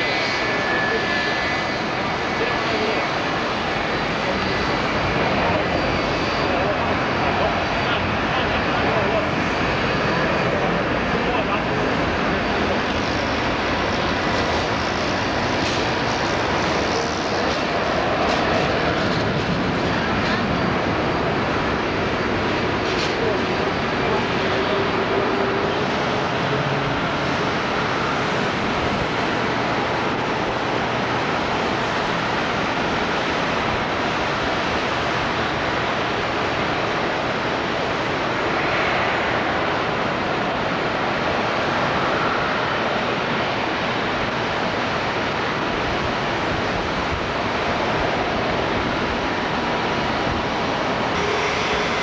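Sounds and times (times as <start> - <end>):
jet engines rushing with whine: 0.0 - 52.0.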